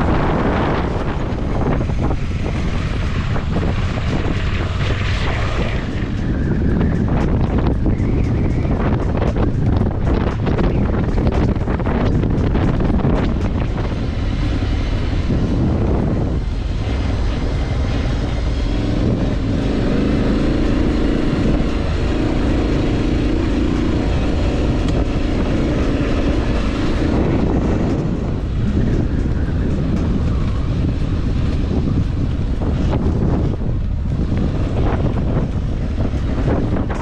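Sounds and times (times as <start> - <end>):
motorcycle engine running: 0.0 - 37.0
wind on microphone: 0.0 - 37.0.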